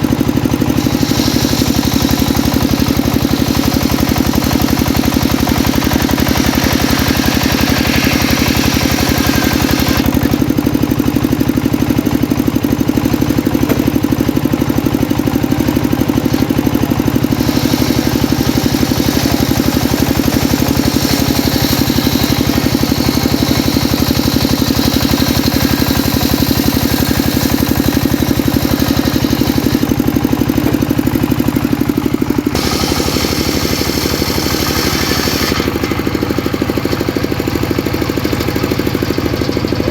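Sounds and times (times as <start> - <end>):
circular saw cutting wood: 0.5 - 11.3, 13.2 - 39.9.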